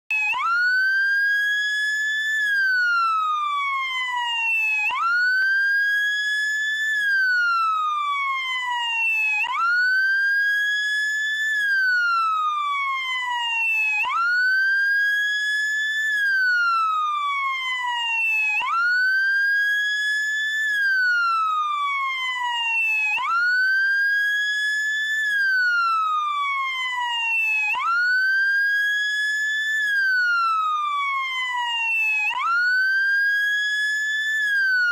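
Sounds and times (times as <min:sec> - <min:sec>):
wailing siren: 0:00.1 - 0:34.9.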